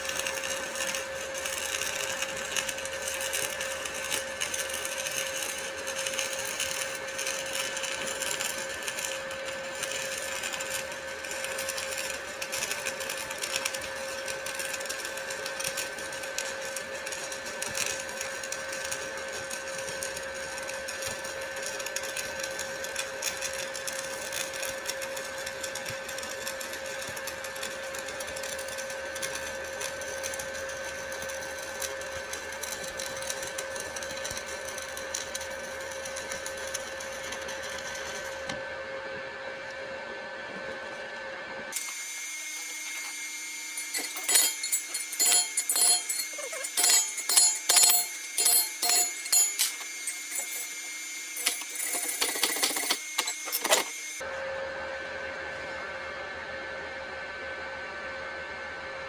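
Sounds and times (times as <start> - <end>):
welding arc crackling: 0.0 - 38.6, 41.7 - 54.2
electrical whine: 0.0 - 55.3.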